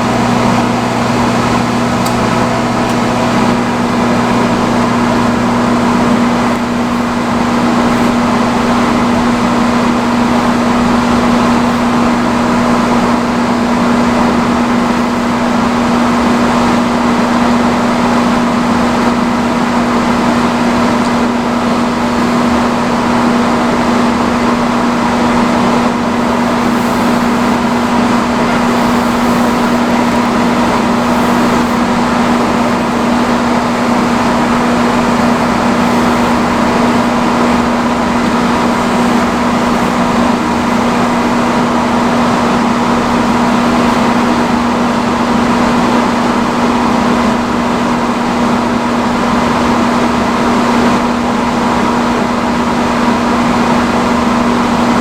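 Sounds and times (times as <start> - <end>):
hood hair dryer running: 0.0 - 55.0.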